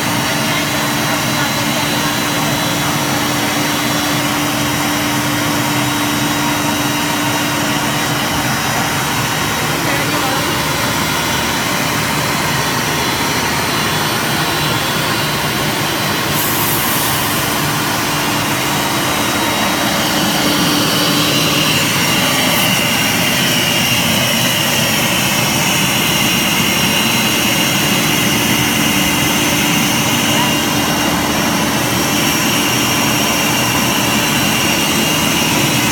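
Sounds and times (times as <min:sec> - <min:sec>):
loud machine noise: 0:00.0 - 0:35.9
wood router spindle whine: 0:00.0 - 0:35.9.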